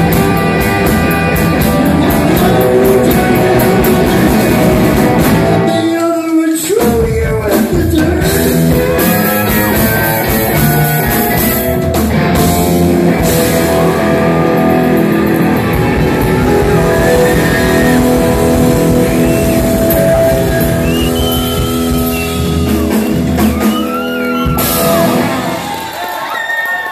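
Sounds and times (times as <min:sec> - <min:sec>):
bending guitar lines: 0:00.0 - 0:05.9, 0:08.2 - 0:25.8
live rock band playing: 0:00.0 - 0:26.3.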